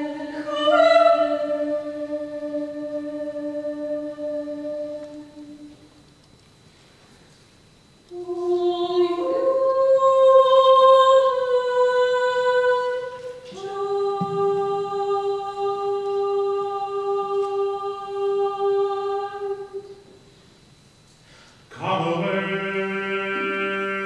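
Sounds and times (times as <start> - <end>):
vocal ensemble singing held notes: 0.0 - 5.9, 8.1 - 20.2, 21.7 - 24.0.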